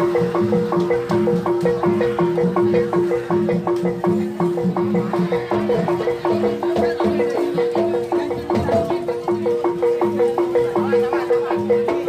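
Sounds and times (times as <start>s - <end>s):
metal percussion repeating pattern: 0.0s - 12.0s.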